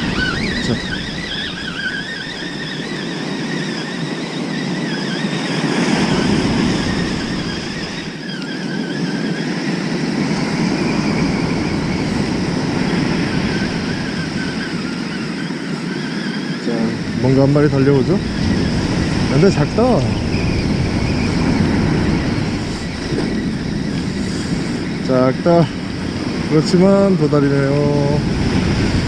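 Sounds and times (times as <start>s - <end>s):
fishing reel whining: 0.0s - 29.0s
wind rushing over microphone: 0.0s - 29.0s.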